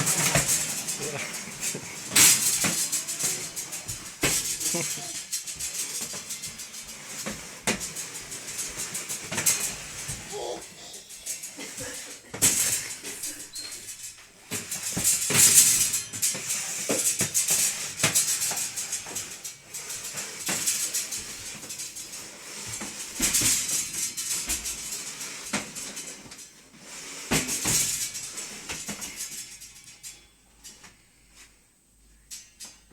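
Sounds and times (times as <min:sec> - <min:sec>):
drying rack scraping across floor: 0:00.0 - 0:30.2.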